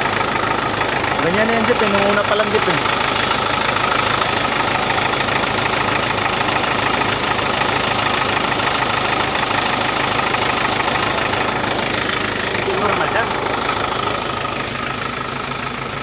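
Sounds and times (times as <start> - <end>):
engine idling loudly: 0.0 - 16.0.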